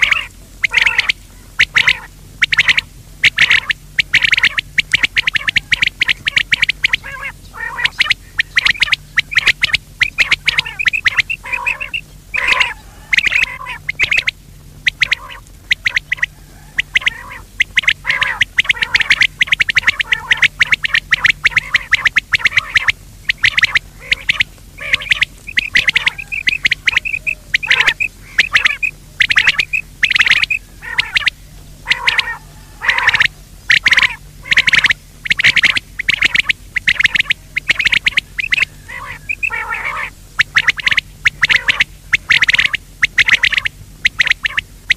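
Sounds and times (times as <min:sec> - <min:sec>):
low steady hum: 0:00.0 - 0:44.9
quail calling: 0:00.0 - 0:44.9.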